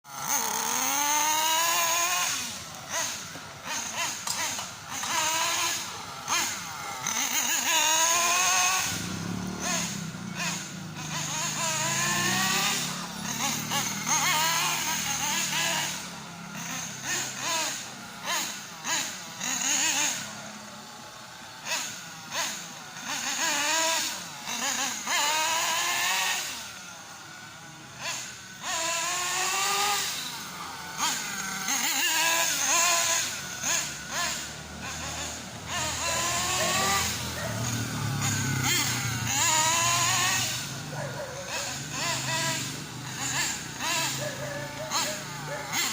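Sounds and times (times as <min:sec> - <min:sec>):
nitro engine revving: 0:00.0 - 0:45.9.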